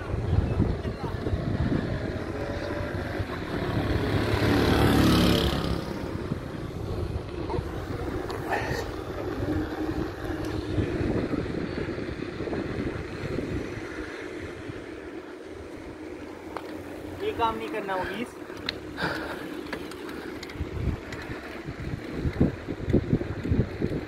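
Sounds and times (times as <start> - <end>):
wind rushing over microphone: 0.0 - 17.7, 20.2 - 24.0
bike tyres rolling on asphalt: 0.0 - 24.0.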